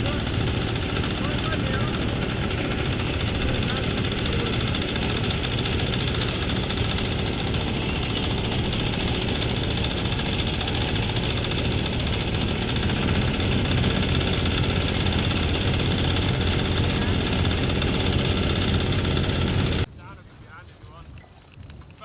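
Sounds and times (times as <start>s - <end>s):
farm machine engine running: 0.0s - 19.9s.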